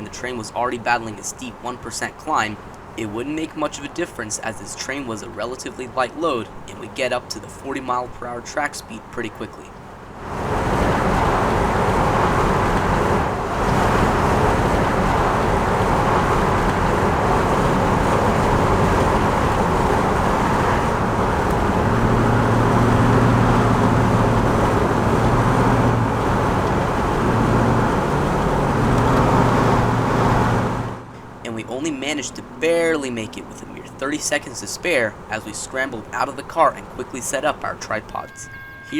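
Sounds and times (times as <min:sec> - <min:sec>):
low engine hum: 0:00.0 - 0:38.9
tyre and road noise: 0:00.0 - 0:38.9.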